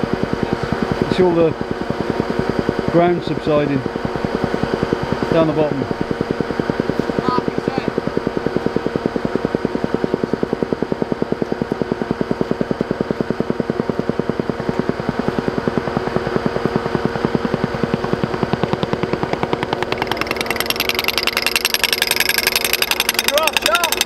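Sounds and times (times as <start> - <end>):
engine hum: 0.0 - 24.0
pneumatic tool hammering: 0.0 - 24.0.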